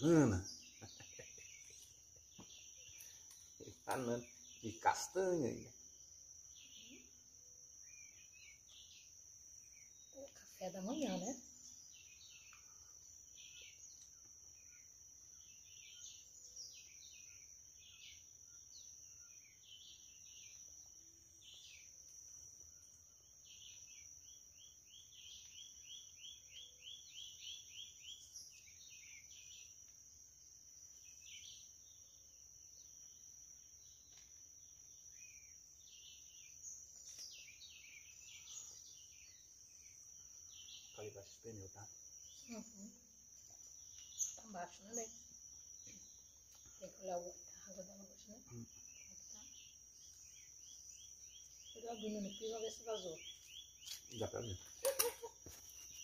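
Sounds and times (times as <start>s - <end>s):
bird chirps: 0.0s - 30.0s, 30.9s - 56.0s
high insect trill: 0.0s - 56.0s.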